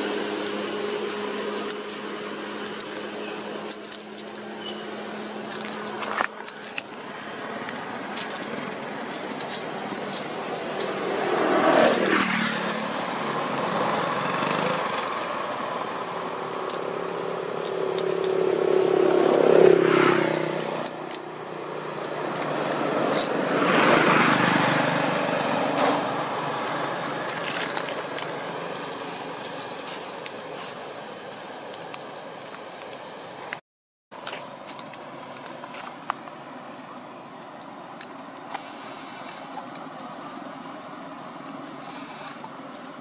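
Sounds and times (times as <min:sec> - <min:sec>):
vehicles driving past: 0:00.0 - 0:33.6, 0:34.2 - 0:43.0.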